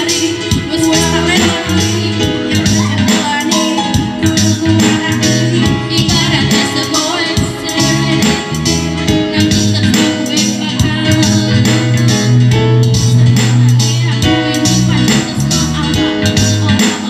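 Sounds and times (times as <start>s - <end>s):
electronic keyboard with beat: 0.0s - 17.0s
girls singing into microphones: 0.0s - 17.0s.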